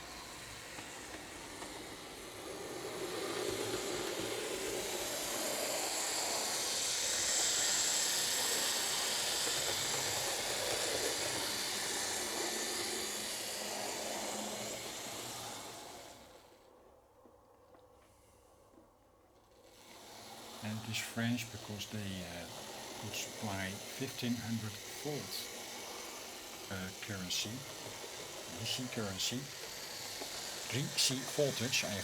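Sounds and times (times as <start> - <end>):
model train motor whirring: 0.0 - 16.8, 19.4 - 32.0.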